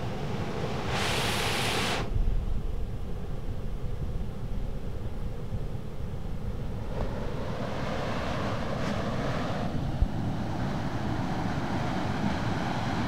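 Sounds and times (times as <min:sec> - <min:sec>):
wind rumble on microphone: 0:00.1 - 0:13.0.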